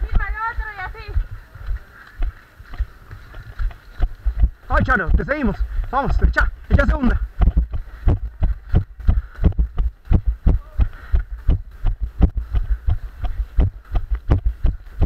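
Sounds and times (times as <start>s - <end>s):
running footsteps on muddy trail: 0.0s - 15.0s.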